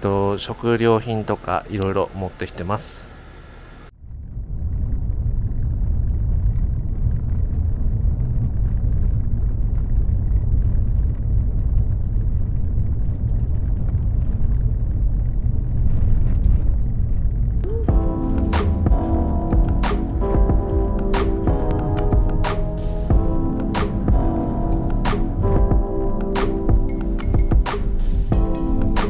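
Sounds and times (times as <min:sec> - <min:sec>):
car driving rumble: 0:03.9 - 0:29.0.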